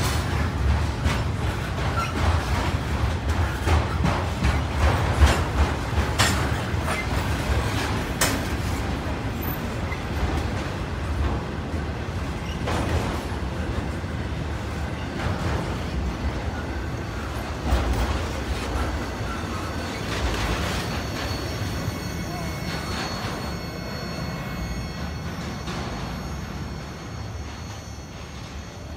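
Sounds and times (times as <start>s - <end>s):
freight train wheels rumbling: 0.0s - 28.9s
train clicks and clanks: 0.0s - 28.9s.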